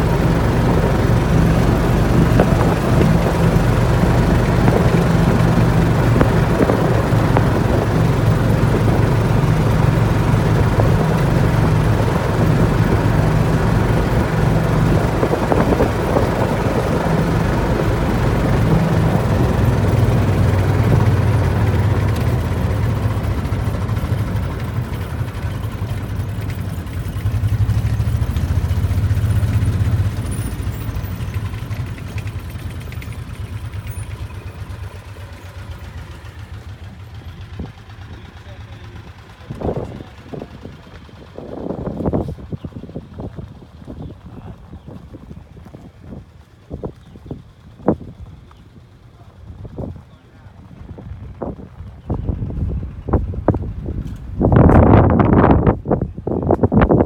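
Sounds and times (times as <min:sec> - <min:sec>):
small vehicle engine running: 0:00.0 - 0:57.0
wind and road noise: 0:00.0 - 0:57.0.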